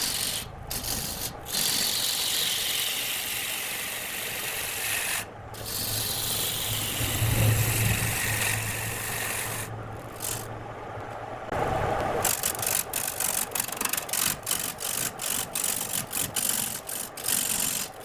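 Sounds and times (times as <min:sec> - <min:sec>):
tool rasping on spinning wood: 0:00.0 - 0:10.5, 0:12.2 - 0:18.0.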